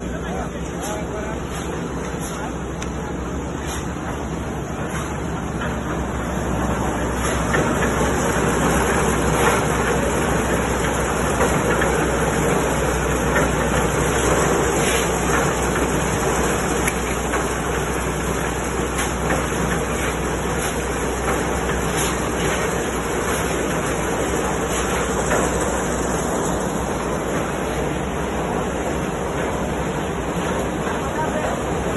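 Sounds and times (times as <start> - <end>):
concrete mixer running: 0.0 - 31.9.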